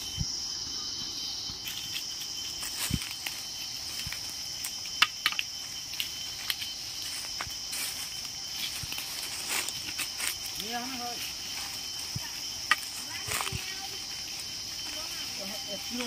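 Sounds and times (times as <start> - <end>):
forest insects droning: 0.0 - 16.0
footsteps in dry leaves: 0.9 - 4.9, 5.5 - 16.0.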